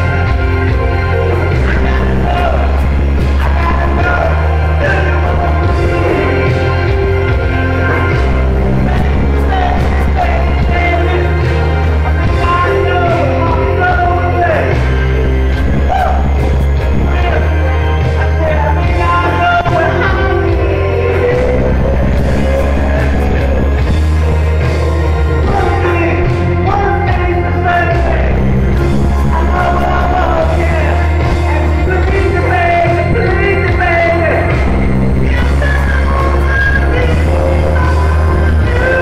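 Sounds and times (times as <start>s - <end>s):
heavy bass notes: 0.0s - 39.0s
person singing: 0.0s - 39.0s
rock ballad backing track: 0.0s - 39.0s.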